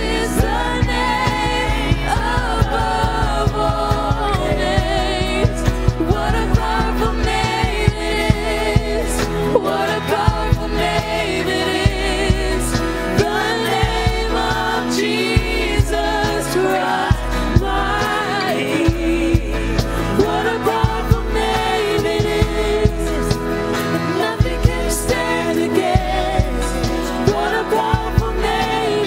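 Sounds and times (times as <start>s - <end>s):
person singing with vibrato: 0.0s - 29.0s
sustained bass chords: 0.0s - 29.0s.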